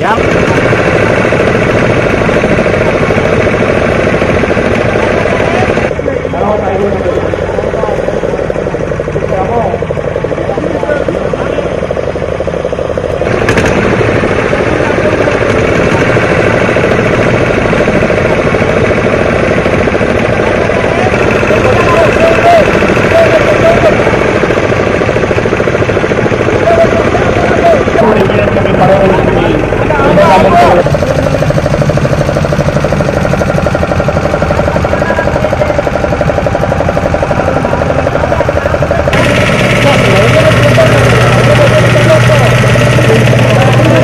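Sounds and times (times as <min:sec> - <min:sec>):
engine chugging: 0:00.0 - 0:44.0.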